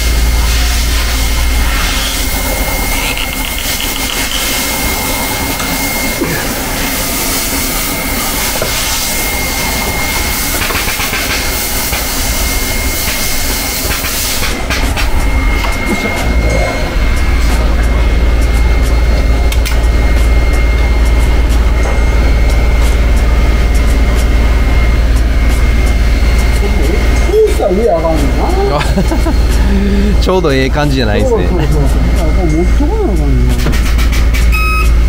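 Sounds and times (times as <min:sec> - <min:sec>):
spot welder hiss and whine: 0:00.0 - 0:32.5.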